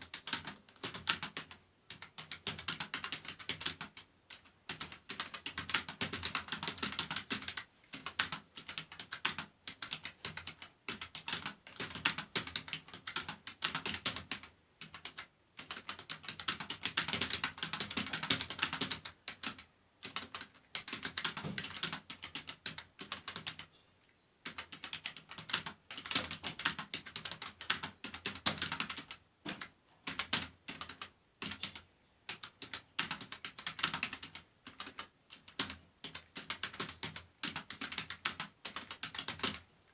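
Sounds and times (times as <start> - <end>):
fast typing on keyboard: 0.0 - 23.7, 24.4 - 39.8.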